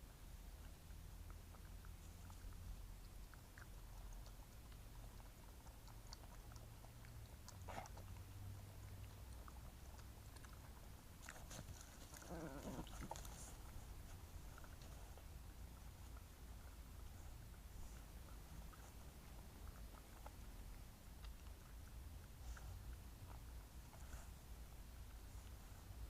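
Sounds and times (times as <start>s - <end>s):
badgers chewing and snuffling: 0.0s - 26.0s.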